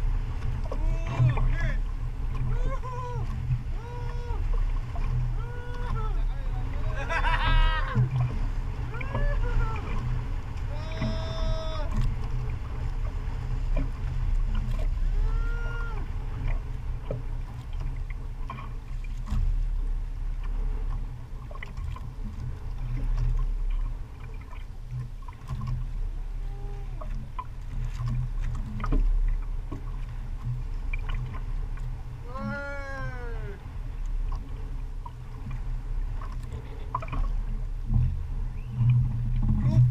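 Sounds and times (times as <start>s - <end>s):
water around boat: 0.0s - 39.9s
wind buffeting microphone: 0.0s - 39.9s.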